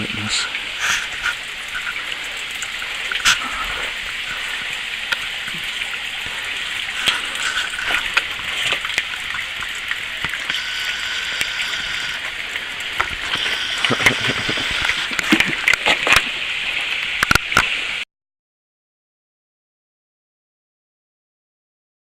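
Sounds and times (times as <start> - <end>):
water drips ticking: 0.0 - 17.8
waterfall rushing: 0.0 - 18.0.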